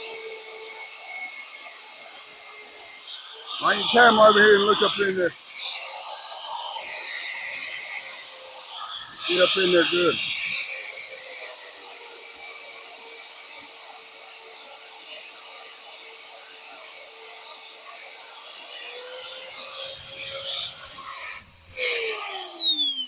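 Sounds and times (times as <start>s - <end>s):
electric drill cutting metal: 0.0s - 23.0s.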